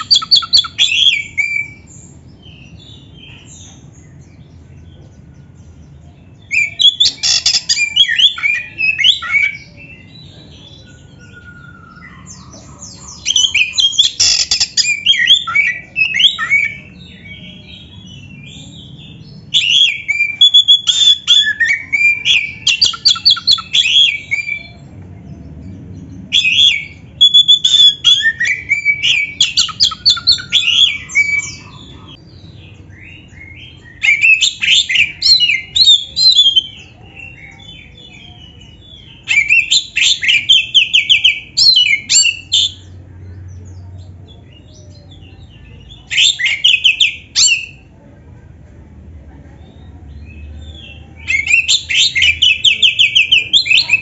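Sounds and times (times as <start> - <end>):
songbird whistling and chattering: 0.0 - 3.9, 6.3 - 24.8, 26.3 - 43.0, 44.5 - 47.9, 50.2 - 54.0.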